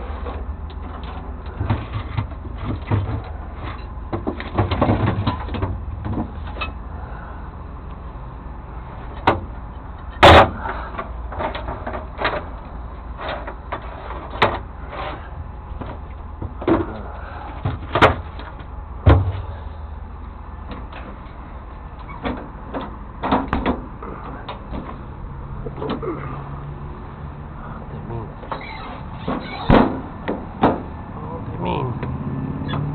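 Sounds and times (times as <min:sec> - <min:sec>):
truck doors and lids clunking: 0:00.2 - 0:06.8, 0:09.1 - 0:19.6, 0:20.6 - 0:27.4, 0:28.3 - 0:31.1.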